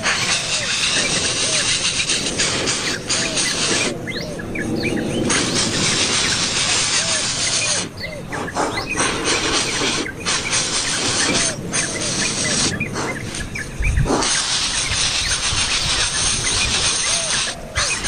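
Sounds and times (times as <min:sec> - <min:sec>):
birds chirping: 0:00.0 - 0:18.0
loud steady hiss: 0:00.0 - 0:18.0.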